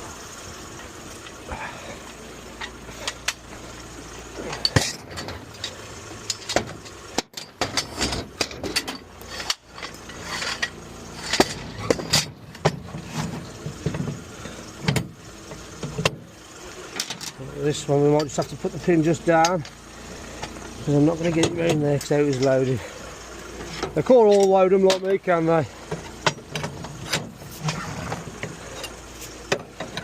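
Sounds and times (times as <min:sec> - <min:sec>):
truck engine running low: 0:00.0 - 0:30.0
metal clanks and rattles: 0:02.6 - 0:30.0.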